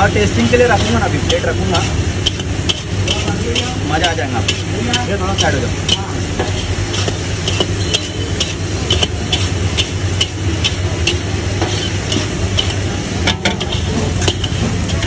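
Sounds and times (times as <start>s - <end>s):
metal spatulas scraping a wok: 0.5s - 15.0s.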